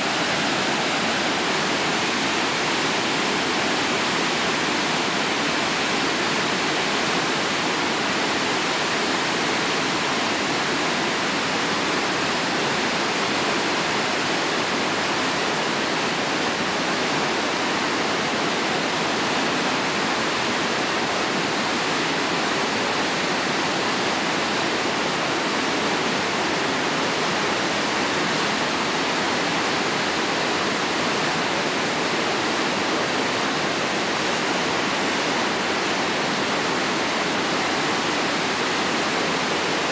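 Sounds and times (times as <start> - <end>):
rushing river rapids: 0.0 - 39.9.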